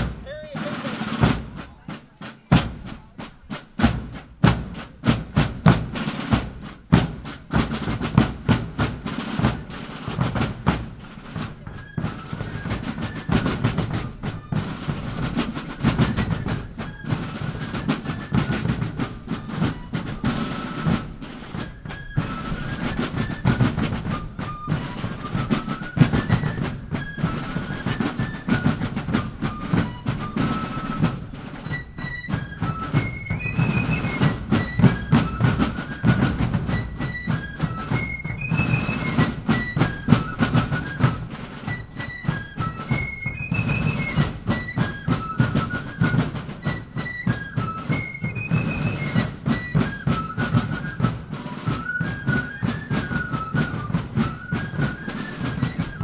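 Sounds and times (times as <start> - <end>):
snare drums beating march: 0.0 - 56.0.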